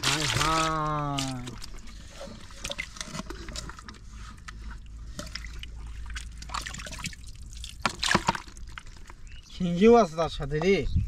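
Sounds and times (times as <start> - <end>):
water splashes and drips: 0.0 - 9.3
muddy water sloshing: 0.0 - 9.7.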